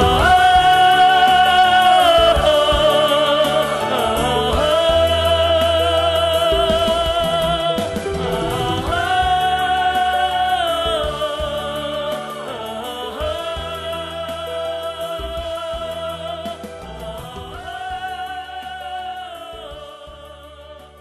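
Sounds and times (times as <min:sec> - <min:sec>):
steady bass accompaniment: 0:00.0 - 0:21.0.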